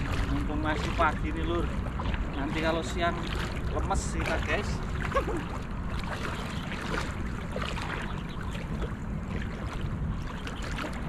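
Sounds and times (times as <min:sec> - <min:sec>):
legs wading through water: 0:00.0 - 0:11.0
steady low rumble: 0:00.0 - 0:11.0.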